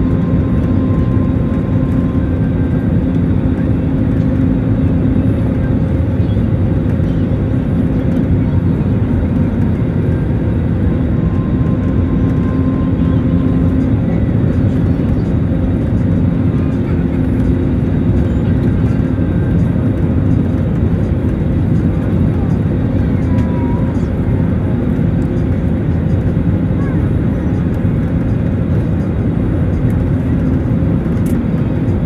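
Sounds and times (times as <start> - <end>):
airliner cabin roar: 0.0 - 32.0
constant low drone: 0.0 - 32.0.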